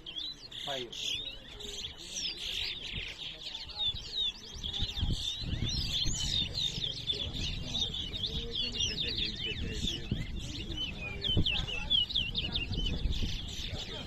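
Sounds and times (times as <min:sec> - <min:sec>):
finch song: 0:00.0 - 0:14.0.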